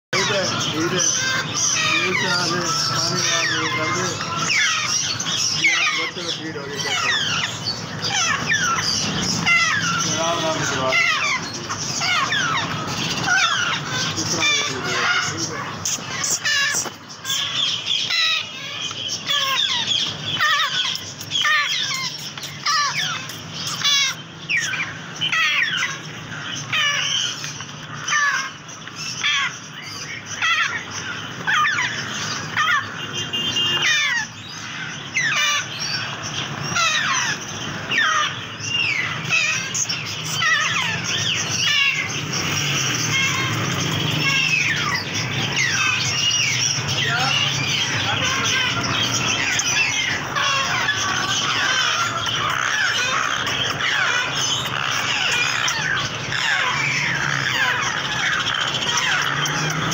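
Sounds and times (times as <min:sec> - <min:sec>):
parrot chicks begging calls: 0:00.1 - 0:59.9.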